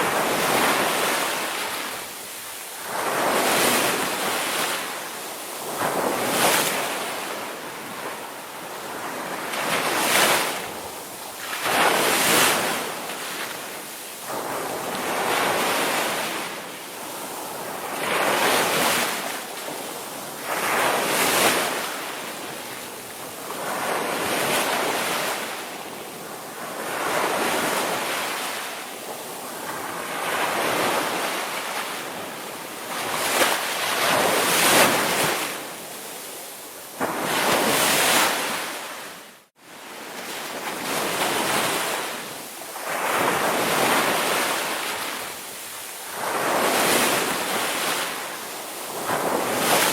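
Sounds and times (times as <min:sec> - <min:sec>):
waves breaking: 0:00.0 - 0:49.9.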